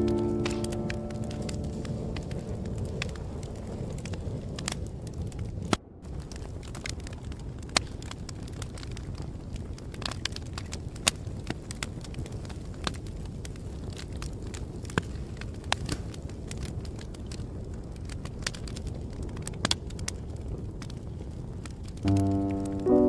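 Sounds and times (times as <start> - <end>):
fire crackling: 0.0 - 23.0.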